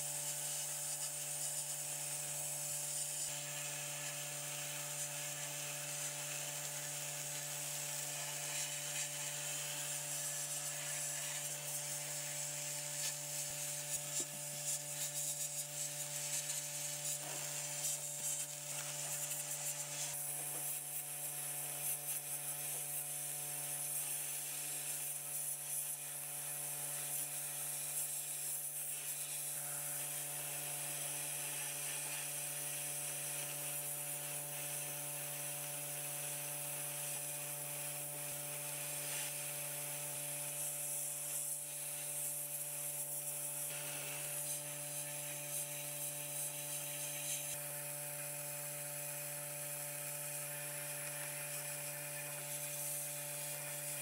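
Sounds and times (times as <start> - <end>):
power tool motor hum: 0.0 - 54.0.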